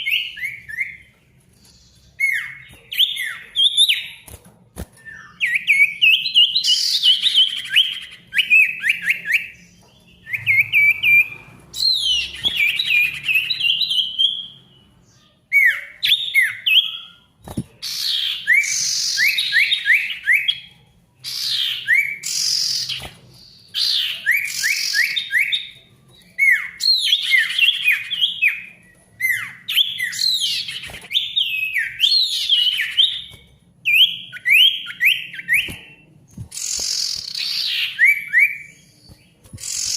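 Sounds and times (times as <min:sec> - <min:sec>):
songbird singing: 0:05.0 - 0:39.9.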